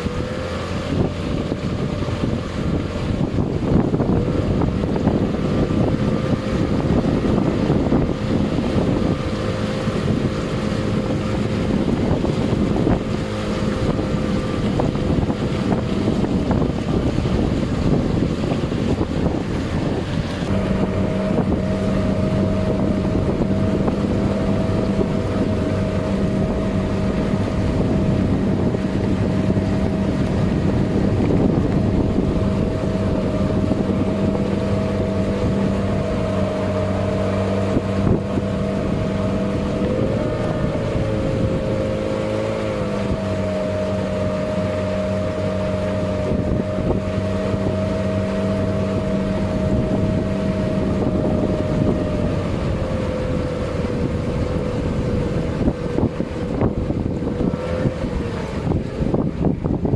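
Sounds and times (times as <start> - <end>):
boat engine running: 0.0 - 59.9
wind buffeting microphone: 0.0 - 59.9.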